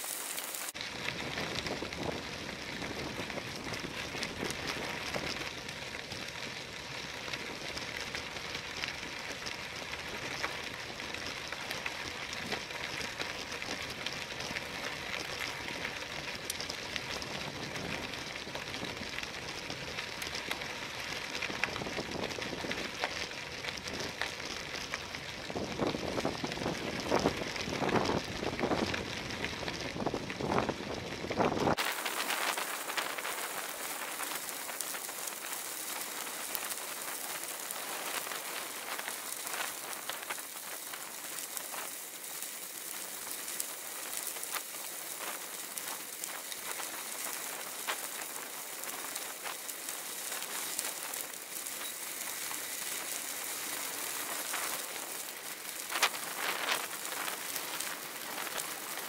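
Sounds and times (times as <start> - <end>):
bicycle tyres on gravel: 0.0 - 59.0.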